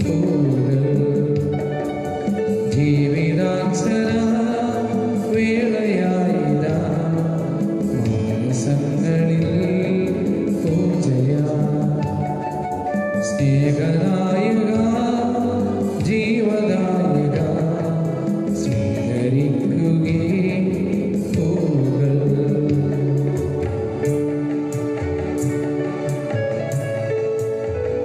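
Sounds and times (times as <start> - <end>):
instrumental accompaniment: 0.0 - 28.0.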